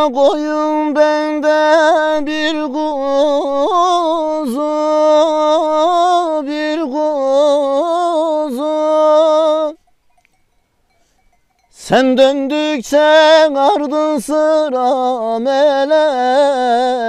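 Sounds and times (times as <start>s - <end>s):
man singing unaccompanied folk song: 0.0s - 10.1s, 11.3s - 17.0s.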